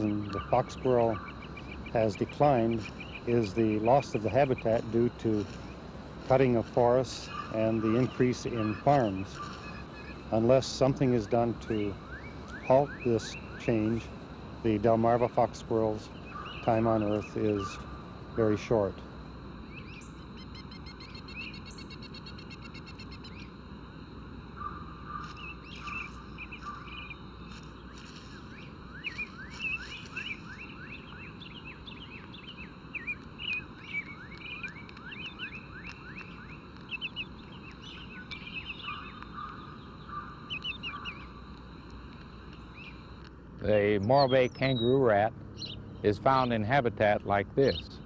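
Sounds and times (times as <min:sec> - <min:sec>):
buzzy bird trill: 0:00.0 - 0:18.9, 0:19.7 - 0:23.6, 0:24.5 - 0:41.5, 0:42.5 - 0:48.0
birds chirping: 0:00.0 - 0:48.0
low background hiss: 0:00.0 - 0:48.0.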